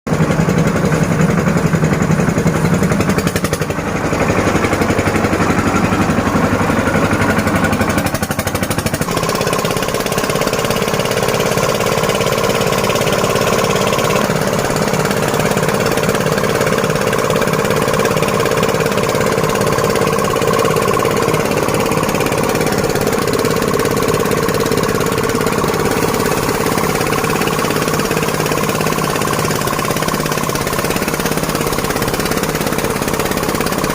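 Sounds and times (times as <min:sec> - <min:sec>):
milling machine rattling: 0:01.3 - 0:33.9.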